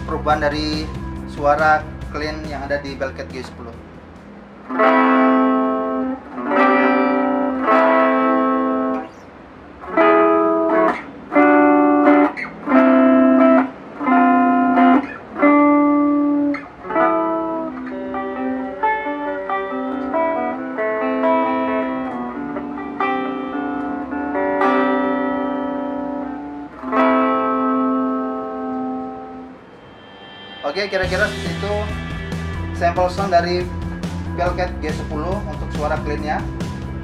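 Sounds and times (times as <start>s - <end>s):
clean electric guitar: 0.0s - 37.0s.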